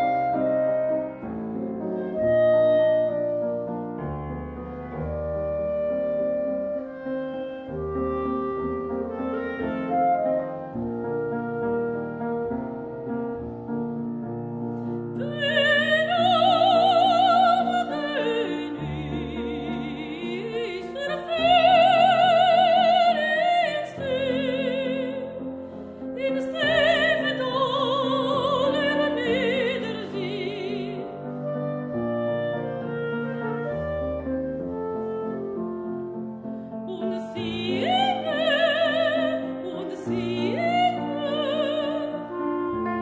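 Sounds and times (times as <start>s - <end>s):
soprano singing: 0.0s - 14.4s, 15.0s - 43.0s
piano playing: 0.0s - 43.0s.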